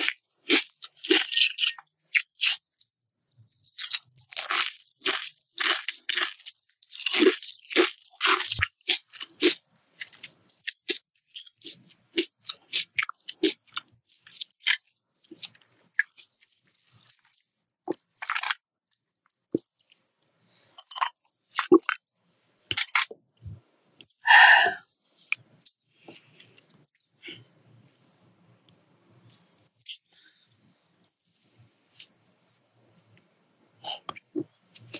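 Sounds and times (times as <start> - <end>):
chewing crunchy food: 0.0 - 24.2, 24.8 - 28.0, 29.3 - 33.3.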